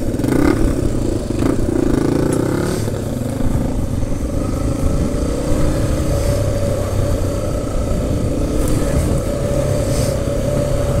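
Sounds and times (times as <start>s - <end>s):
motorbike engine running at low revs: 0.0s - 11.0s.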